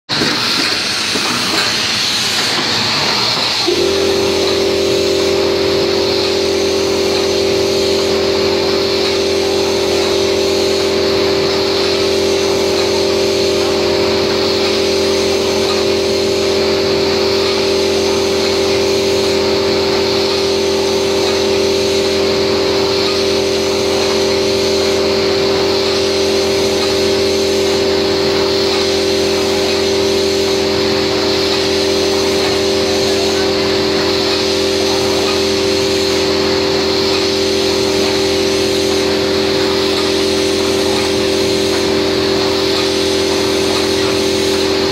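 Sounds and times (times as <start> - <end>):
collating machine humming: 0.1 - 44.9
air hiss from feeders: 0.5 - 44.9.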